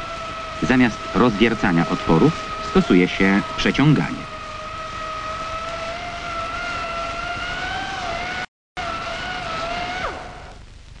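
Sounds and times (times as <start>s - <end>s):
pneumatic tool high whine: 0.0s - 10.6s.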